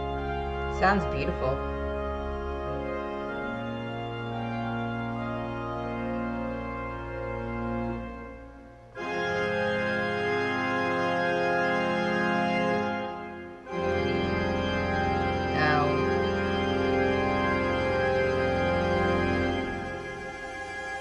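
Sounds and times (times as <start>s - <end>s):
pipe organ chords: 0.0s - 21.0s.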